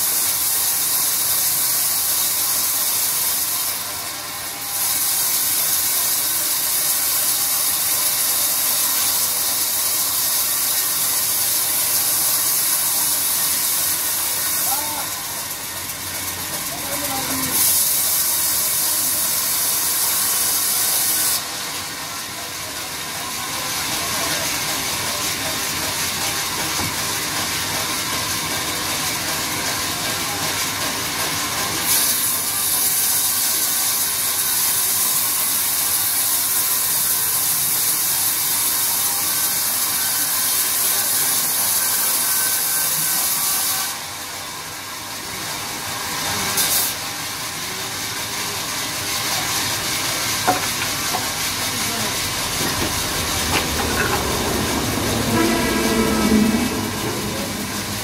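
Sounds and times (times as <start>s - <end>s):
saw blade hissing through log: 0.0s - 22.0s, 31.6s - 58.0s
band saw running: 0.0s - 58.0s.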